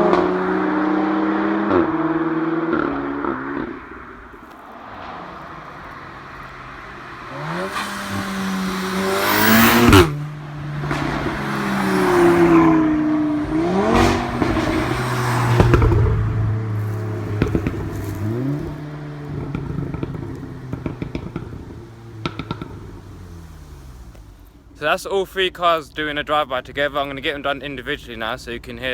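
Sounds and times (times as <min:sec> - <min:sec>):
cars accelerating hard past: 0:00.0 - 0:24.6
exhaust pops and crackles: 0:00.0 - 0:28.4.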